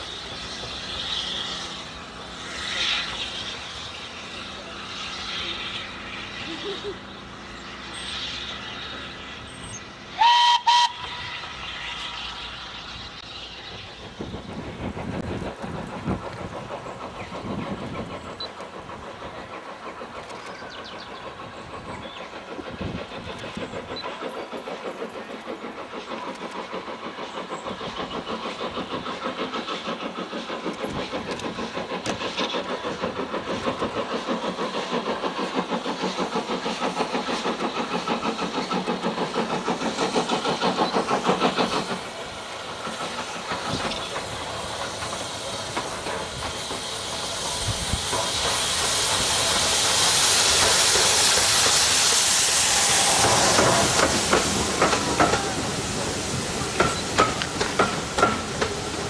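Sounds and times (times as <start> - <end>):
steam locomotive chuffing: 0.0 - 59.0.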